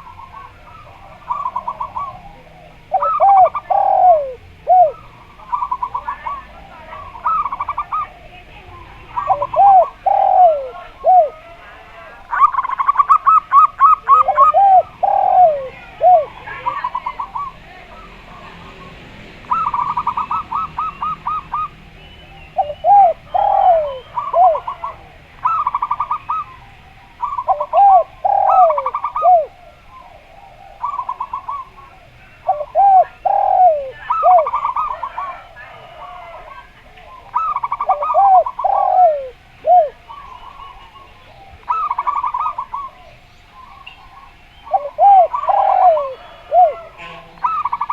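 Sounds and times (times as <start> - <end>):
dove fast staccato cooing: 0.0 - 47.9
dove low swinging cooing: 0.0 - 47.9
faint small birds chattering: 0.0 - 47.9.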